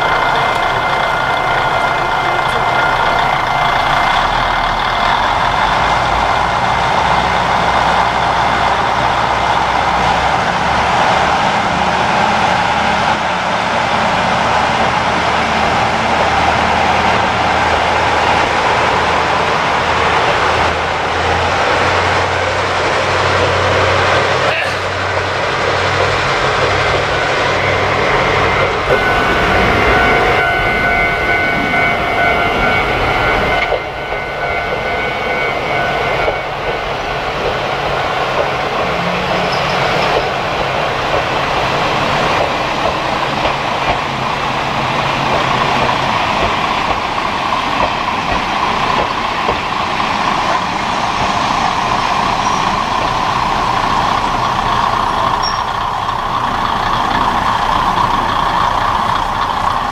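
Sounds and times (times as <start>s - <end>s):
diesel railcar engine and wheels: 0.0s - 59.9s.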